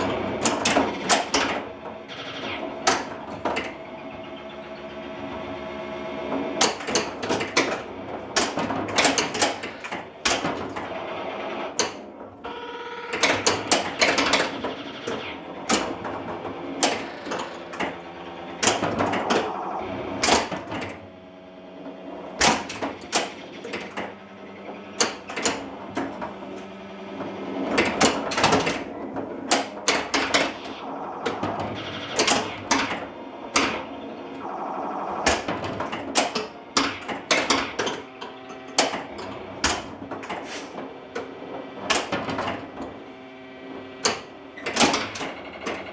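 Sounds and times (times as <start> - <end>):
pinball flippers and bumpers clacking: 0.0 - 45.9.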